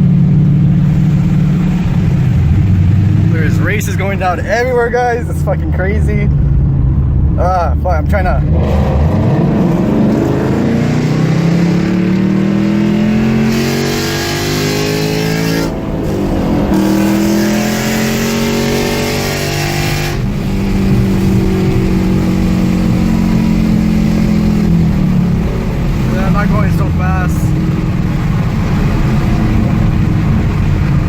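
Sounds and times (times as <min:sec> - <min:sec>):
car engine accelerating through gears: 0:00.0 - 0:05.0, 0:05.8 - 0:31.0.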